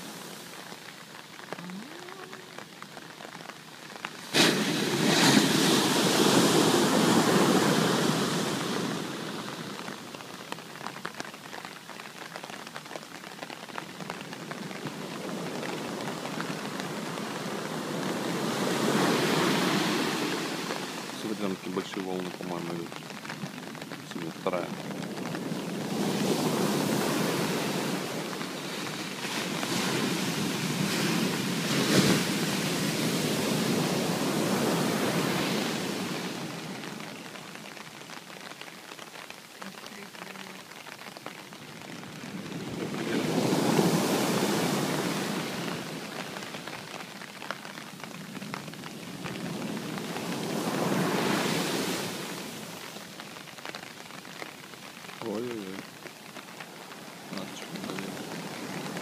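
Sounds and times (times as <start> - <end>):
sea waves breaking: 0.0 - 55.9, 56.6 - 59.0
rain hissing: 0.0 - 59.0.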